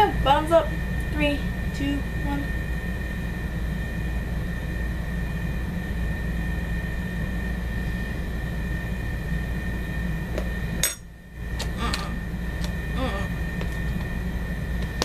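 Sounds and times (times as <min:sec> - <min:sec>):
faint high whine: 0:00.0 - 0:15.0
low background hum: 0:00.0 - 0:15.0.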